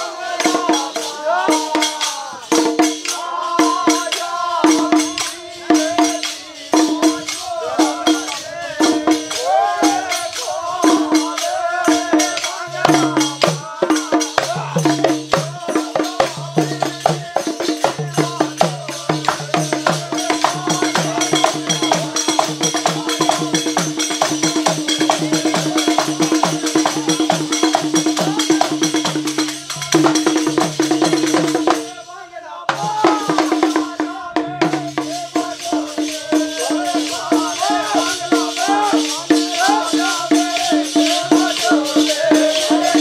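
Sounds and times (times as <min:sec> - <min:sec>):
hand drums and percussion: 0:00.0 - 0:43.0
men singing: 0:00.0 - 0:43.0.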